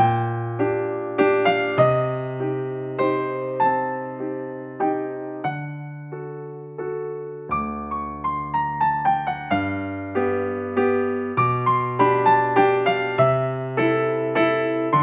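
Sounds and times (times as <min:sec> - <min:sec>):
soft solo piano music: 0:00.0 - 0:15.0.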